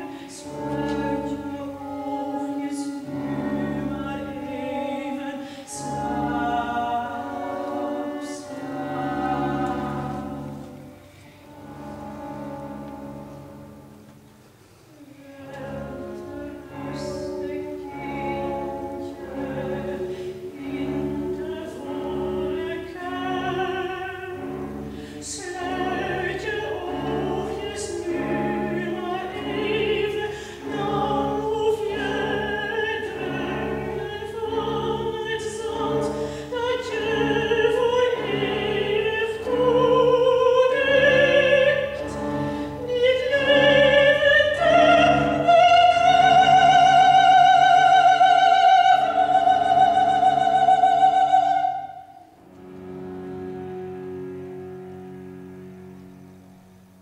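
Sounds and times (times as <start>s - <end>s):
soprano singing operatically: 0.0s - 11.6s, 15.0s - 52.4s
string ensemble playing: 0.0s - 57.0s.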